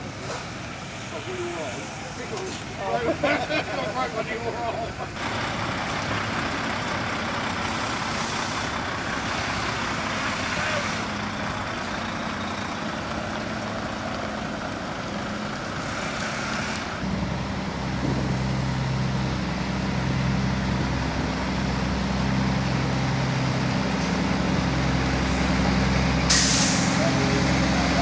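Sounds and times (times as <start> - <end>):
lorry diesel engines running: 0.0 - 28.0
nearer diesel truck droning: 4.9 - 28.0.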